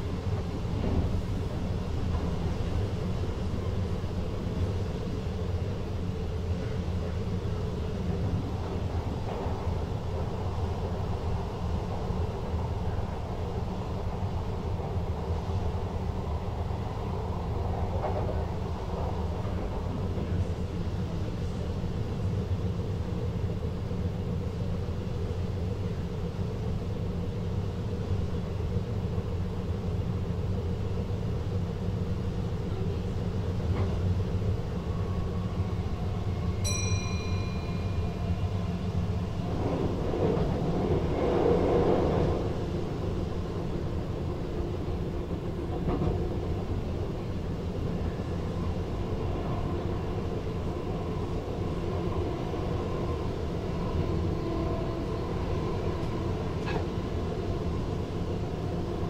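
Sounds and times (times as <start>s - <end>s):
electric train rumbling: 0.0s - 59.0s.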